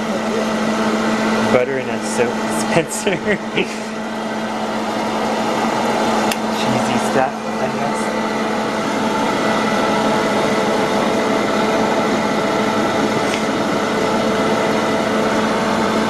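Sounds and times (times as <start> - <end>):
blower humming: 0.0 - 16.0.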